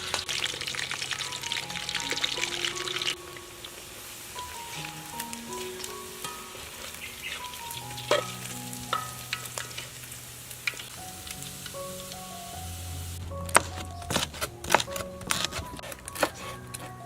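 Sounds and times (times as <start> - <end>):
food sizzling in a pan: 0.0 - 14.8
soft background music: 0.0 - 17.0.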